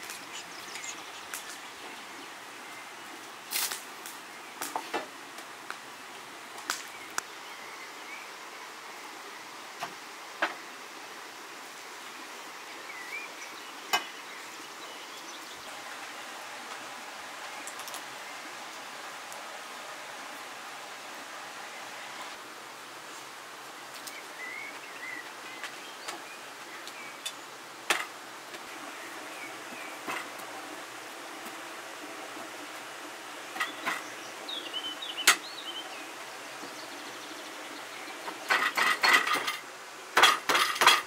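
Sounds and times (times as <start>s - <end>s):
outdoor background hiss: 0.0s - 41.0s.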